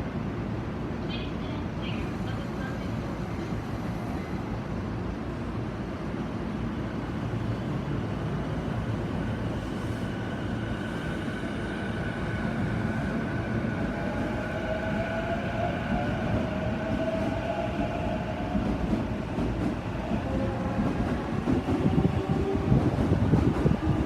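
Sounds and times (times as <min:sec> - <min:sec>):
train rolling rumble: 0:00.0 - 0:24.0.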